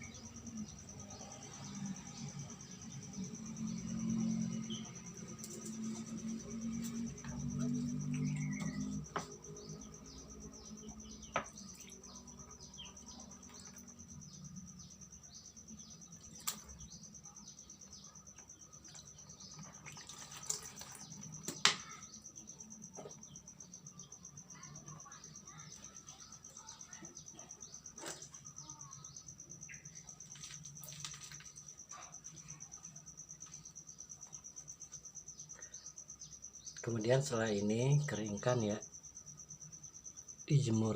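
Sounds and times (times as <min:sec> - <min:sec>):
high insect trill: 0:00.0 - 0:40.9.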